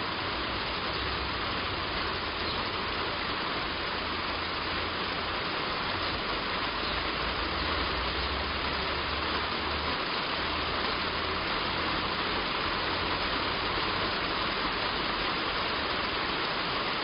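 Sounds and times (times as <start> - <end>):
heavy rain on a roof: 0.0 - 17.0.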